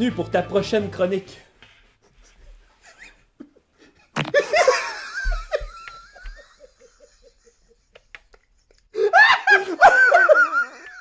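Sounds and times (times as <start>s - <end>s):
men laughing hard: 2.1s - 11.0s.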